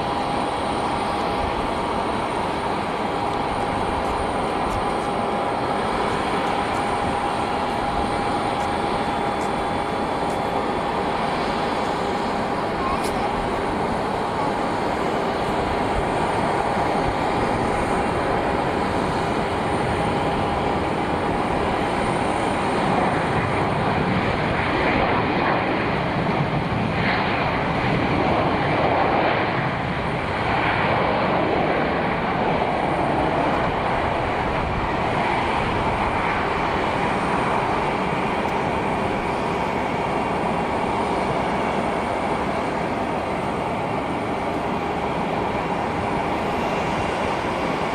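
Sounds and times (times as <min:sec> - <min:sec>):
airplane engines running: 0:00.0 - 0:47.9.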